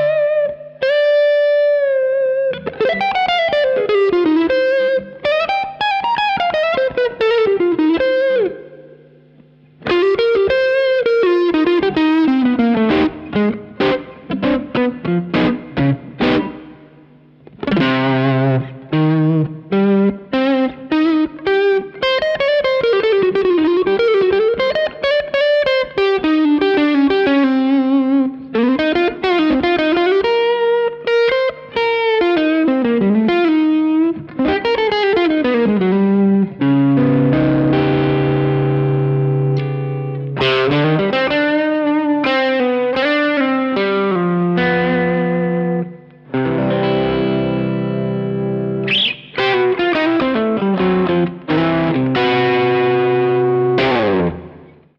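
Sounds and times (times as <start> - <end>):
overdriven electric guitar lead: 0.0 - 54.9.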